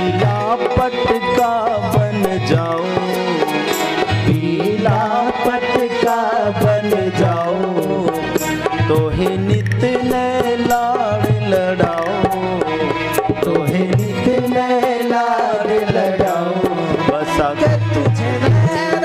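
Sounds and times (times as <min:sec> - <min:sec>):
devotional song melody: 0:00.0 - 0:19.0
tabla rhythm: 0:00.0 - 0:19.0.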